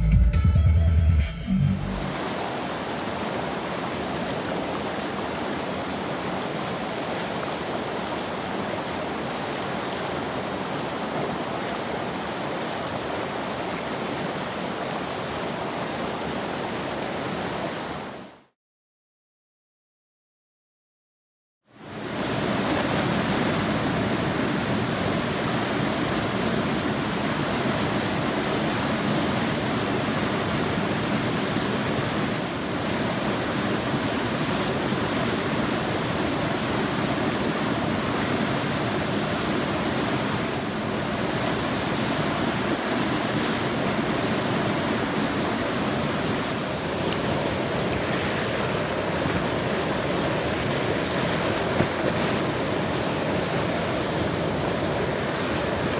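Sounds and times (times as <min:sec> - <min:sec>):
river rapids rushing: 0:01.9 - 0:18.3, 0:21.9 - 0:55.9.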